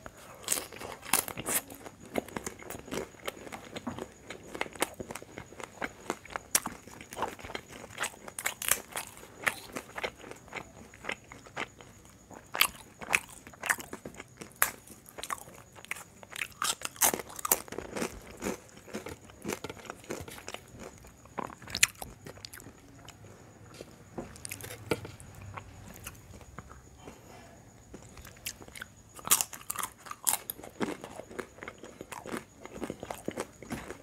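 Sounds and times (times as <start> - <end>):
crunching of crisp food: 0.0 - 34.0.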